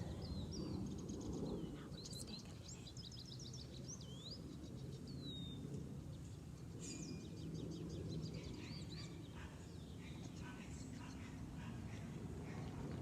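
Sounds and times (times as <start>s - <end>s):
city traffic rumble: 0.0s - 13.0s
small birds chirping and whistling: 0.1s - 12.6s.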